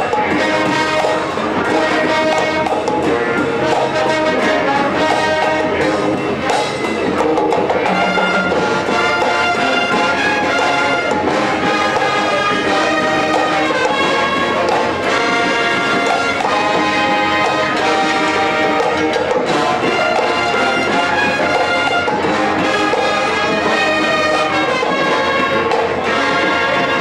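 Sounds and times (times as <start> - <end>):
marching band playing: 0.0 - 27.0.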